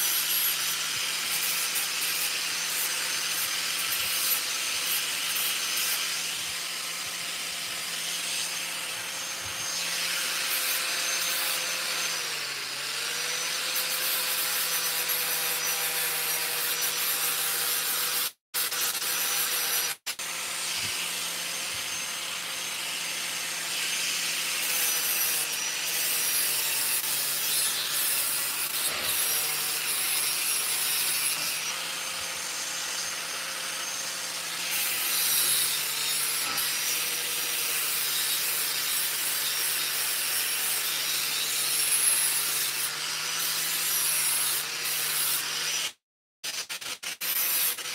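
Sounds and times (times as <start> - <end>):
angle grinder grinding steel: 0.0 - 47.9.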